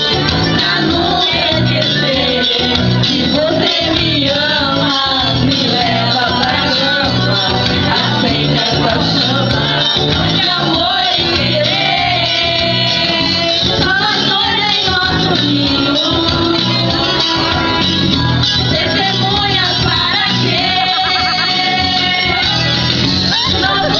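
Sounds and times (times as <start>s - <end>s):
song with band and singing: 0.0s - 23.9s.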